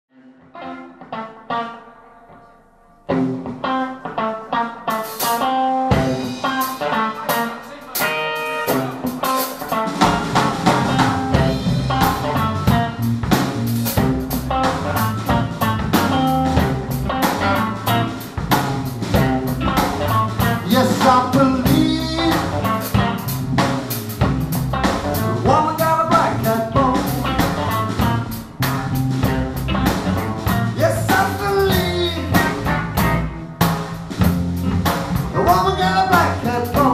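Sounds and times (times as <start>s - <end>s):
lead guitar bending phrases: 0.1s - 36.9s
electric blues band playing: 0.2s - 36.9s
drums: 3.1s - 36.9s.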